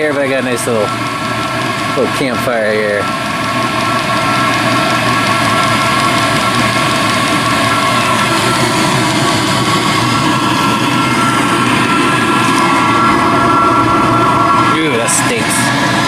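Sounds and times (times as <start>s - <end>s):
burner noise: 0.0s - 16.0s
heater blower whine: 0.0s - 16.0s.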